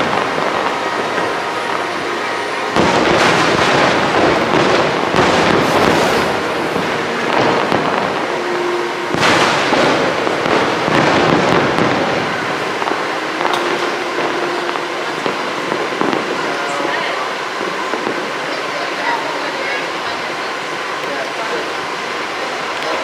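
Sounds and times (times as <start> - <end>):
fireworks bangs and crackle: 0.0 - 23.0.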